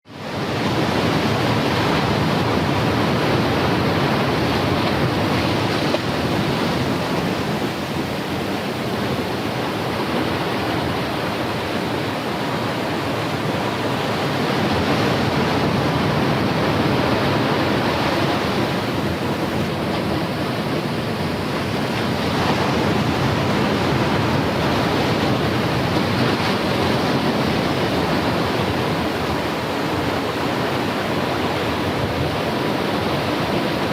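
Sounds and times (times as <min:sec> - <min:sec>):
ocean surf breaking: 0:00.1 - 0:33.9.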